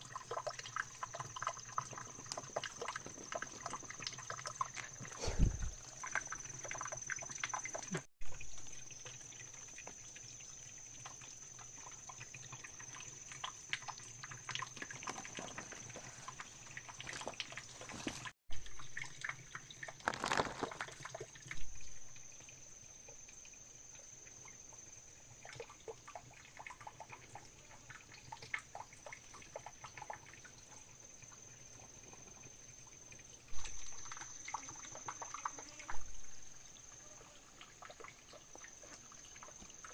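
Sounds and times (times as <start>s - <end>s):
water splashing and trickling: 0.0s - 39.9s.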